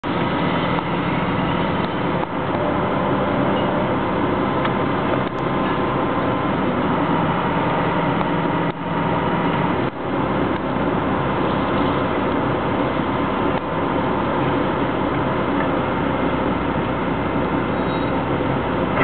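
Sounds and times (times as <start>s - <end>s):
large engine running: 0.0s - 19.0s.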